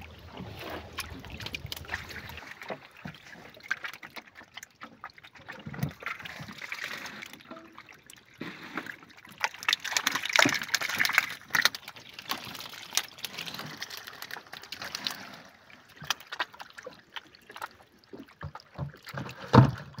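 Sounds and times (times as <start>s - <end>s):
water sloshing in a canoe: 0.0s - 20.0s.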